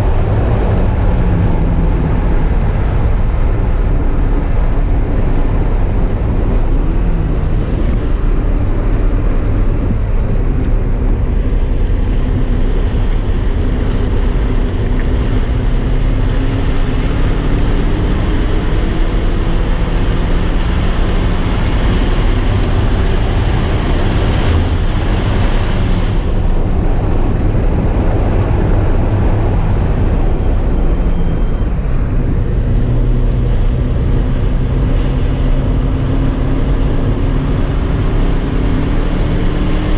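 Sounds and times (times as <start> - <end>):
car engine revving: 0.0 - 39.9
wind and road noise: 0.0 - 39.9.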